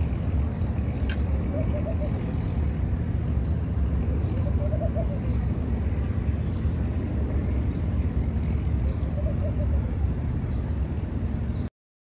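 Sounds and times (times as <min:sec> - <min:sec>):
metro train rumble: 0:00.0 - 0:11.7.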